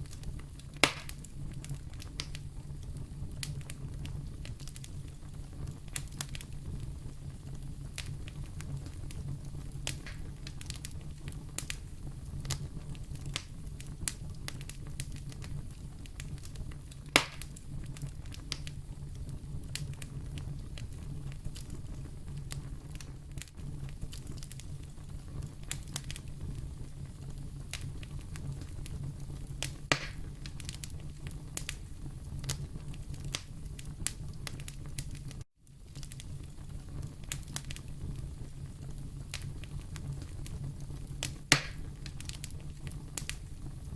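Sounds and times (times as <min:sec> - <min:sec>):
fire snaps: 0:00.0 - 0:43.9
wood fire crackling: 0:00.0 - 0:43.9.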